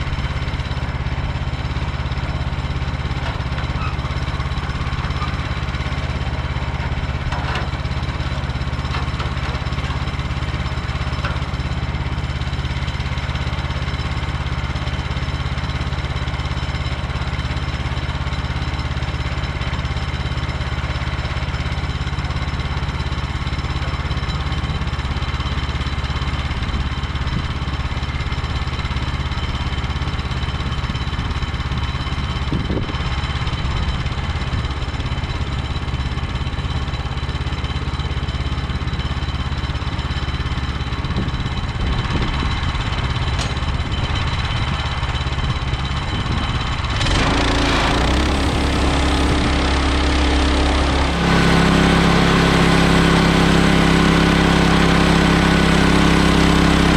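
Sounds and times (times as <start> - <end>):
small gasoline engine running: 0.0 - 56.9.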